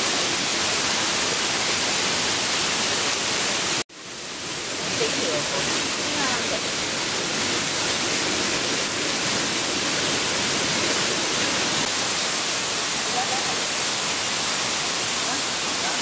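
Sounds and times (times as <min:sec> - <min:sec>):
stream and waterfall rushing: 0:00.0 - 0:16.0.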